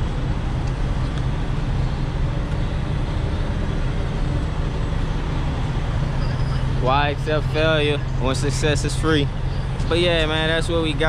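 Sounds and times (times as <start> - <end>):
truck engines and road traffic: 0.0 - 11.0.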